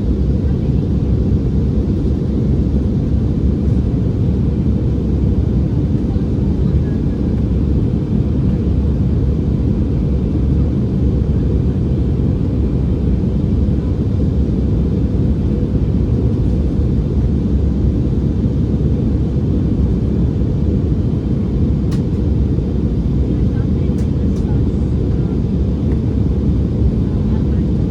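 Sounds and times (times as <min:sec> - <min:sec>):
aircraft cabin rumble: 0:00.0 - 0:27.9.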